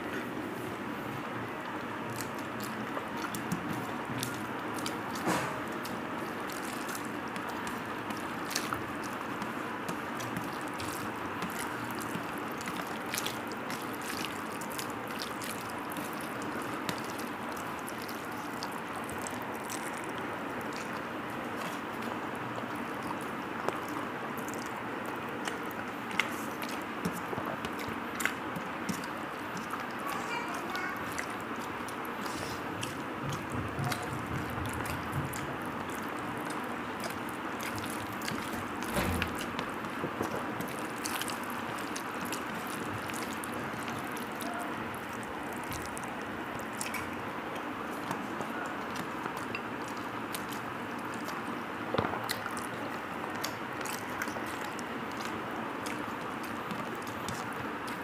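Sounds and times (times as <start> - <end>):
hand squishing rice and curry: 0.0 - 58.0
chewing: 1.4 - 58.0.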